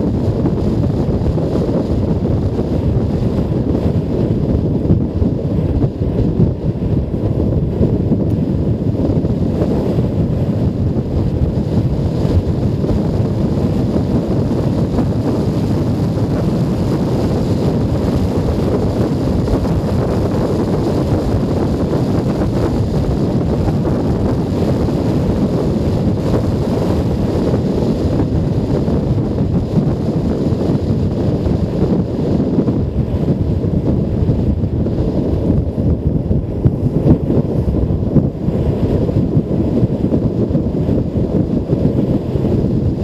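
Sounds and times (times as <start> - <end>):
road noise: 0.0 - 43.0
wind buffeting microphone: 0.0 - 43.0.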